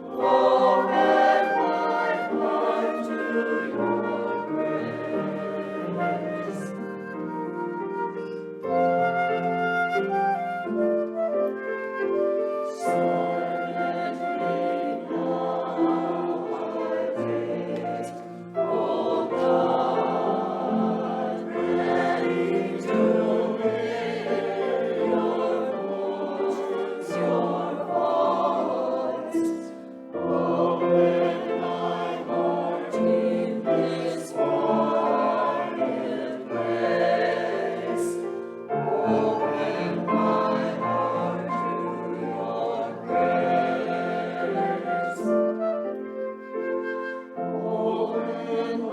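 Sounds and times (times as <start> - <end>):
choir singing a hymn: 0.0 - 48.9.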